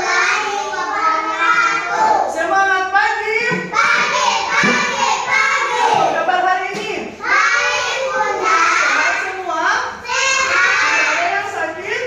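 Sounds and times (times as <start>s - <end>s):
children speaking together: 0.0s - 2.4s, 3.5s - 12.0s.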